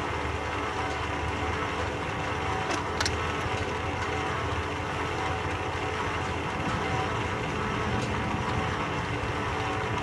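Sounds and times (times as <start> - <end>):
lathe geared hum: 0.0 - 10.0.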